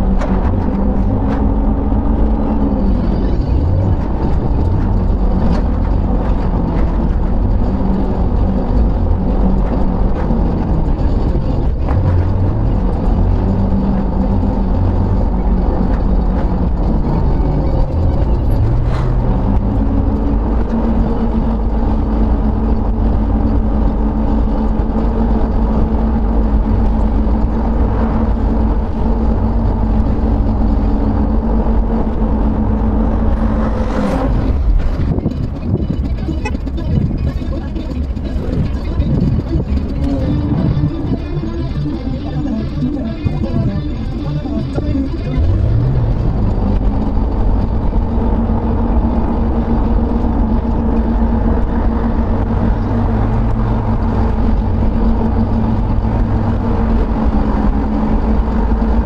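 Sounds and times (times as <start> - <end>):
car engine drone: 0.0 - 59.0
humming tone: 0.0 - 59.0.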